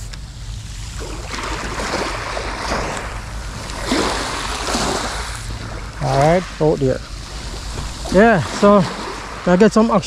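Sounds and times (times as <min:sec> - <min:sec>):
wind on microphone: 0:00.0 - 0:09.5
surf washing on shore: 0:00.0 - 0:10.0.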